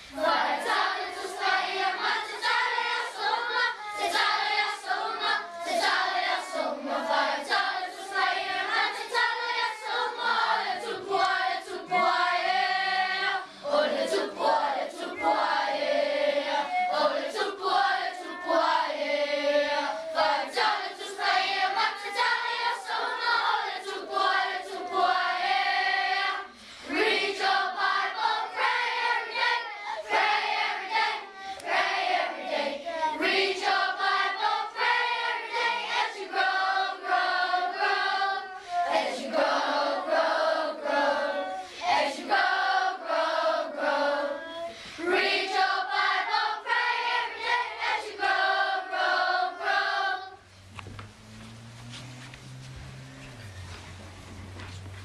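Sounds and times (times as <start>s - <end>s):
children's choir singing: 0.0s - 55.0s.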